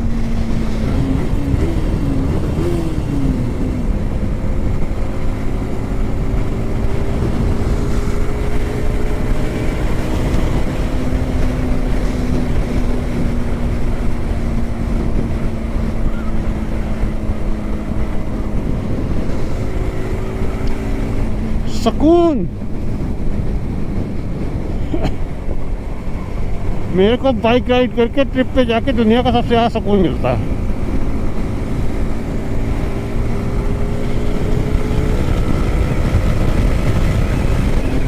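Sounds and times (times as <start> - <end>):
motorcycle engine cruising: 0.0 - 38.0
wind rushing over microphone: 0.0 - 38.0.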